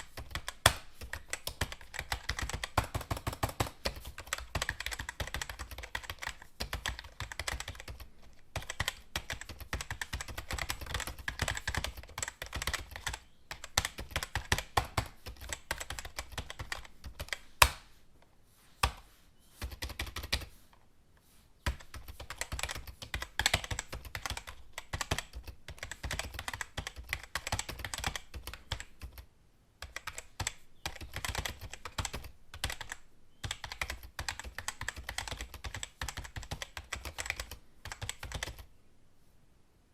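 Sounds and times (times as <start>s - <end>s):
computer keyboard typing: 0.0s - 17.7s, 19.6s - 20.5s, 21.6s - 38.7s.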